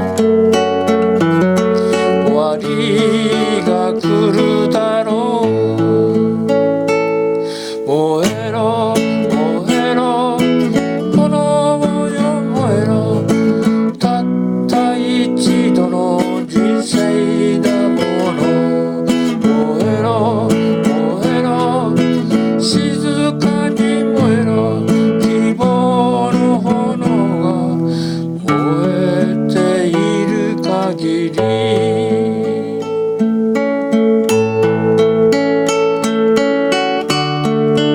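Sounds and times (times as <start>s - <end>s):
acoustic guitar strummed and picked: 0.0s - 37.9s.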